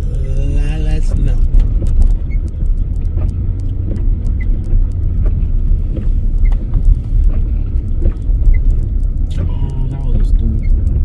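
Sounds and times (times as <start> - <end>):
small clicks and crackles: 0.0 - 11.0
truck engine and tyres rumbling: 0.0 - 11.0.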